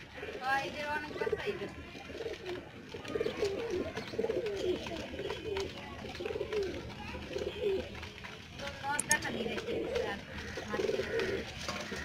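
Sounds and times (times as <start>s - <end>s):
pigeons cooing: 0.0s - 8.1s, 9.2s - 12.0s.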